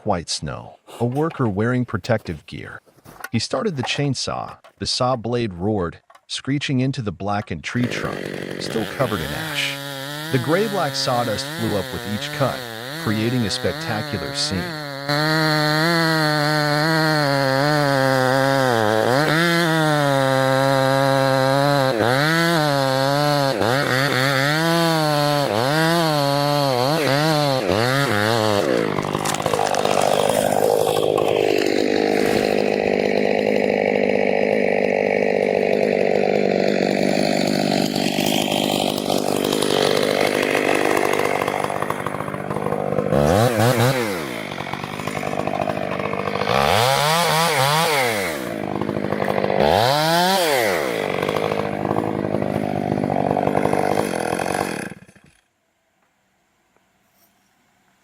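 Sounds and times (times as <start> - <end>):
chainsaw cutting wood: 7.7 - 55.5.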